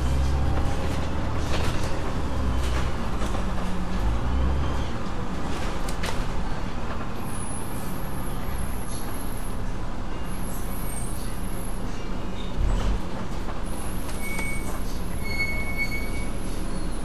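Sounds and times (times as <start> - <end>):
bus engine running: 0.0 - 17.0
road noise: 0.0 - 17.0.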